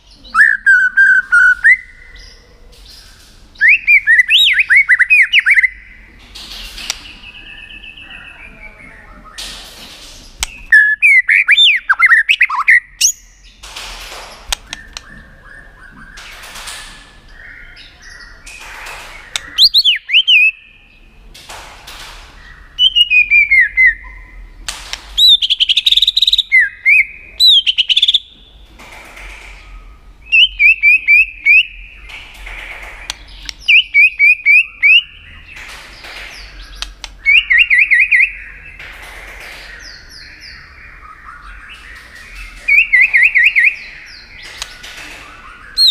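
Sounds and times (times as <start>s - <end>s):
bird rapid chirping calls: 0.0s - 9.4s, 10.2s - 13.7s, 17.3s - 21.0s, 22.4s - 28.6s, 29.6s - 38.8s, 39.4s - 45.9s.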